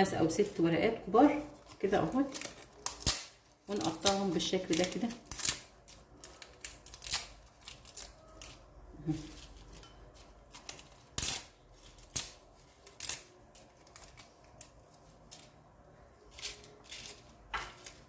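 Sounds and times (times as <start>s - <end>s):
dried leaves snapping: 1.6s - 15.6s, 16.2s - 18.0s.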